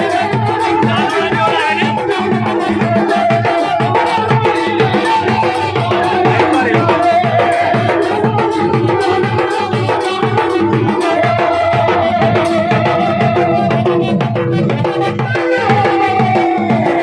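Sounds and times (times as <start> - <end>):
dhol drumming: 0.0 - 17.0
wavering melody line: 0.0 - 17.0.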